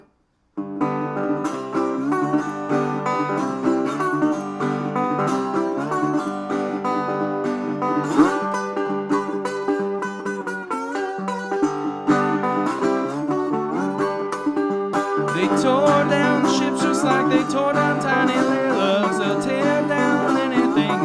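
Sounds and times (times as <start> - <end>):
picked guitar melody: 0.6 - 21.0.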